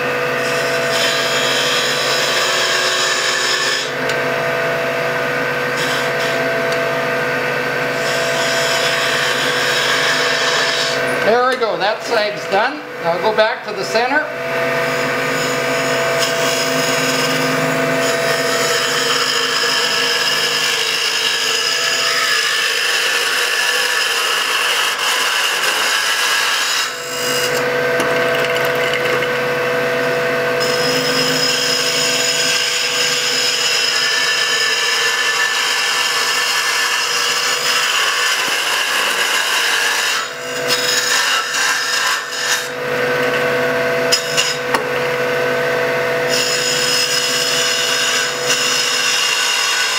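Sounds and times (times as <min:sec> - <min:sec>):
cutter shaving spinning wood: 0:00.0 - 0:49.9
lathe humming: 0:00.0 - 0:49.9.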